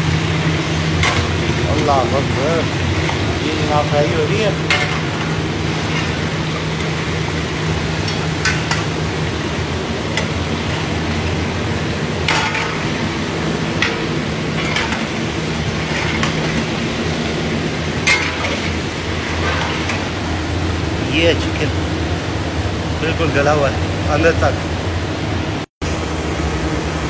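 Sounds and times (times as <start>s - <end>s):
oil sizzling in wok: 0.0s - 27.0s.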